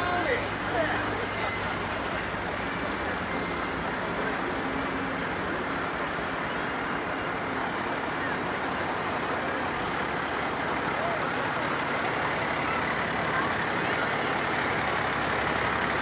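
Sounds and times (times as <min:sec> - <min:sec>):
faint voices: 0:00.0 - 0:16.0
vehicle engine running: 0:00.0 - 0:16.0.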